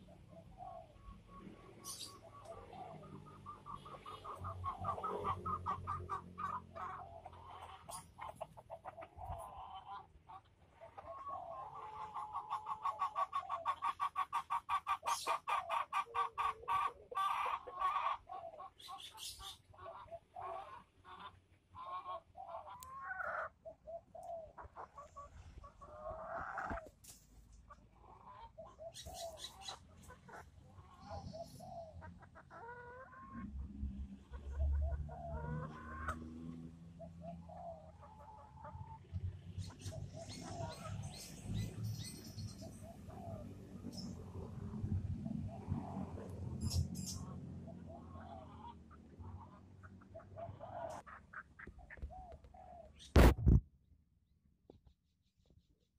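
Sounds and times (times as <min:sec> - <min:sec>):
chickens clucking: 0:00.0 - 0:53.6.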